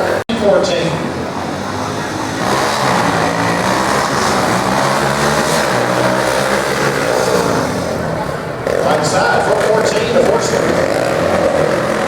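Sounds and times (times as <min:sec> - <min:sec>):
racing engines running loud: 0:00.0 - 0:12.0.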